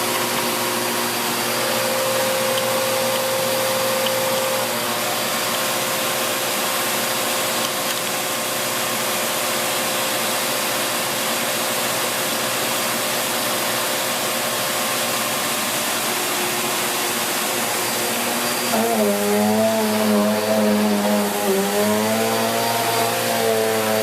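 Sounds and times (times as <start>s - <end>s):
vacuum cleaner on carpet: 0.0s - 24.0s.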